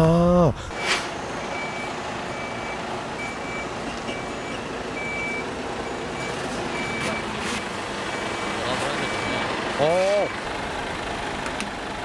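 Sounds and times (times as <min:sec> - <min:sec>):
diesel truck engine running: 0:00.1 - 0:12.0
truck reversing alarm beeping: 0:00.7 - 0:10.6.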